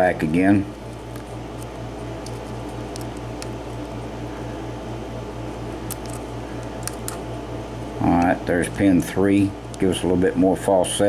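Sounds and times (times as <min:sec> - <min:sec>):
pulsing mechanical hum: 0:00.0 - 0:11.0.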